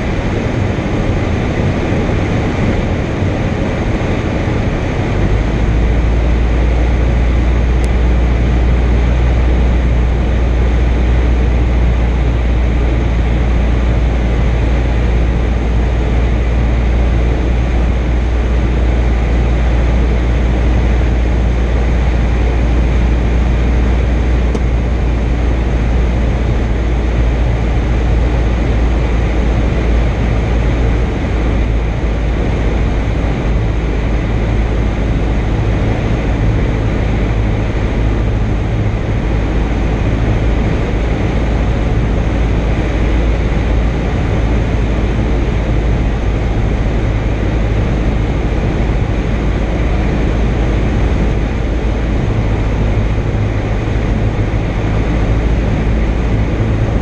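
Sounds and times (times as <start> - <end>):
airplane engine drone: 0.0 - 57.0.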